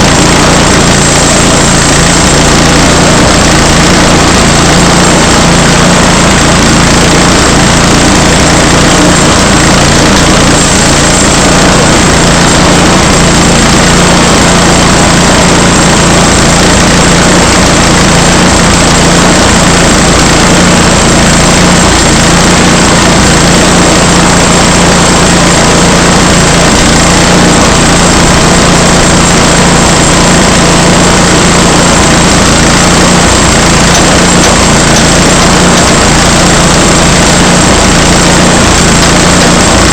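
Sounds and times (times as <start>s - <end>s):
gas engine running: 0.0s - 39.9s.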